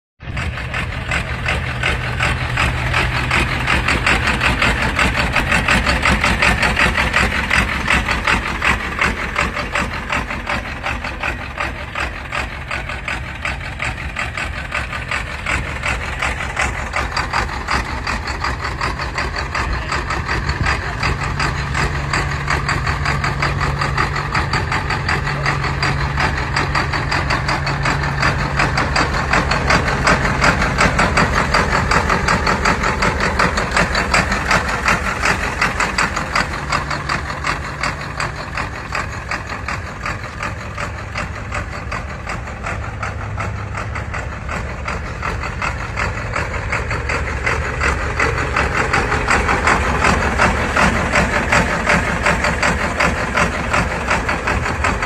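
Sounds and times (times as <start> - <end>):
tractor engine idling: 0.2 - 55.0.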